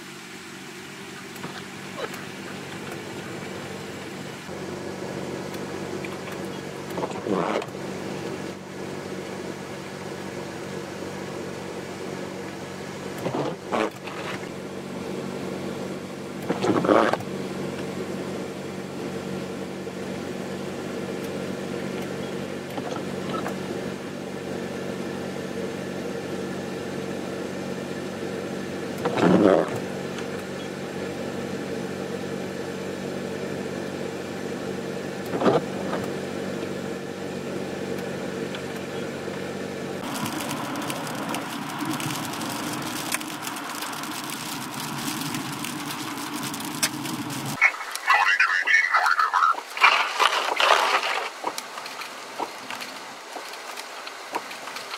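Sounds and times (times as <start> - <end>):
vehicle engine idling: 0.0 - 54.9.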